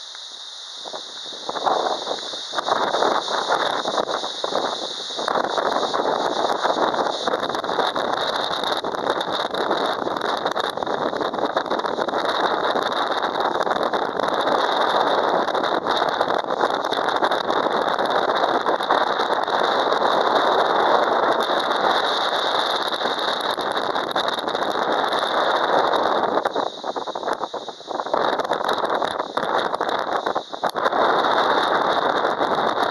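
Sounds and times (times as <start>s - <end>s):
wind and rain rushing: 0.0s - 32.9s.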